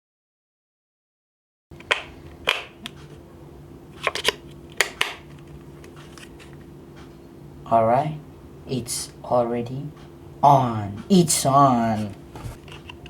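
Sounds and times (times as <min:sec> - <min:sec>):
faint steady hum: 0:01.7 - 0:13.0.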